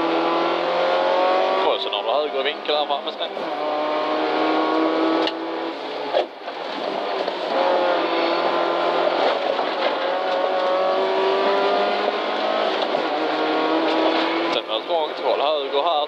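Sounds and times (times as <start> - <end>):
car engine from inside cabin: 0.0 - 15.8.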